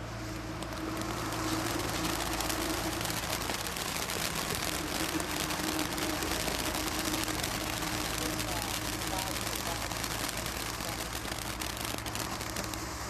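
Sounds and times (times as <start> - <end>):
firework fountains hissing and crackling: 0.0 - 13.0.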